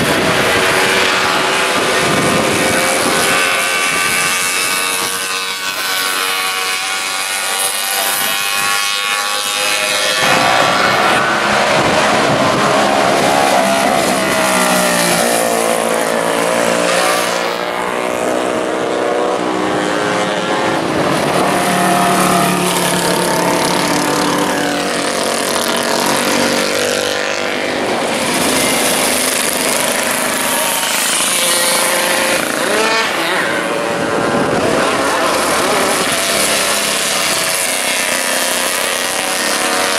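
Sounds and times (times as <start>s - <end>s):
racing motorcycle engine accelerating: 0.0s - 39.9s.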